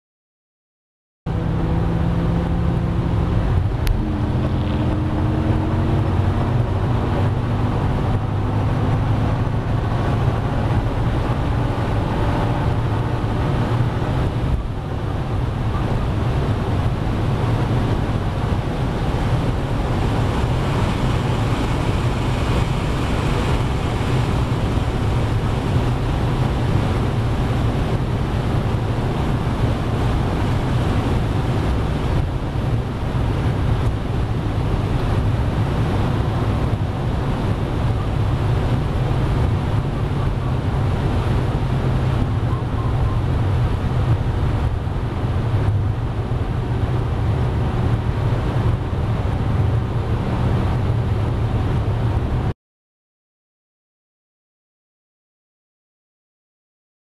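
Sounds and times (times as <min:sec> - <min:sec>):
car engine pulling hard: 0:01.3 - 0:52.2
wind roar: 0:01.3 - 0:52.5
road roar: 0:01.3 - 0:52.6.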